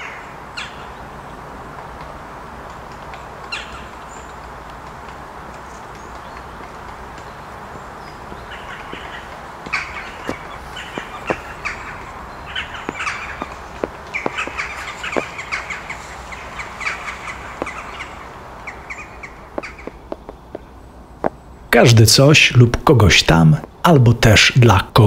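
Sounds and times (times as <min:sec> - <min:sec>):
birds calling: 0:00.0 - 0:24.6
steady background hiss: 0:00.0 - 0:25.0.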